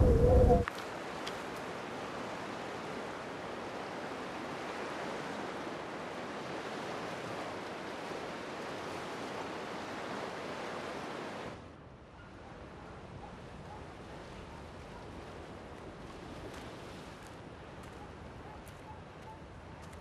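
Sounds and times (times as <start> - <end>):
waves washing onto beach: 0.0 - 11.7, 13.6 - 20.0.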